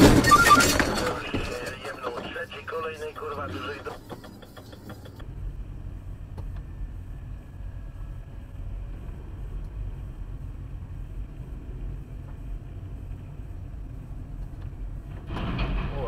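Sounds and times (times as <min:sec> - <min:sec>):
truck engine and tyres rumbling: 0:00.0 - 0:16.0.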